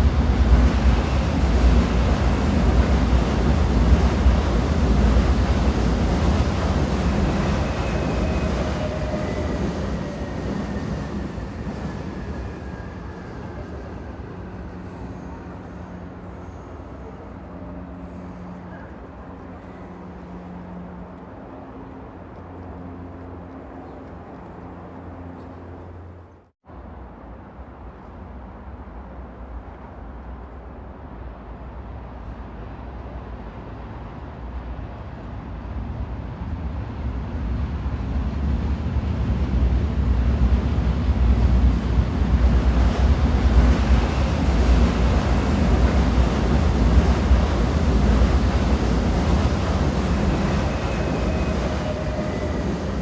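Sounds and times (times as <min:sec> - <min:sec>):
train rumble with whine: 0:00.0 - 0:53.0.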